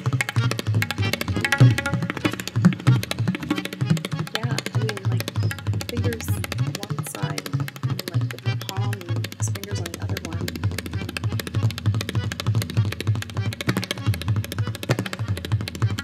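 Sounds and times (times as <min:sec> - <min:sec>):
tabla played fast: 0:00.0 - 0:16.0.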